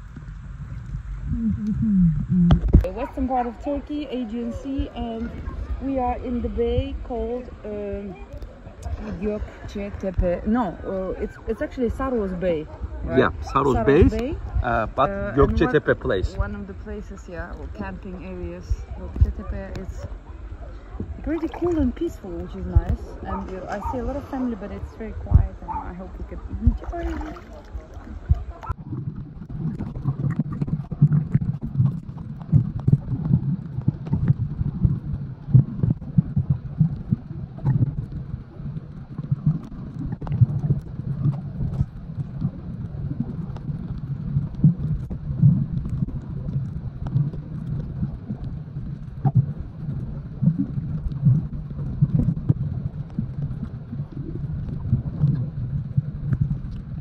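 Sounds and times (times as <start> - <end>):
low underwater rumble: 0.0 - 57.0.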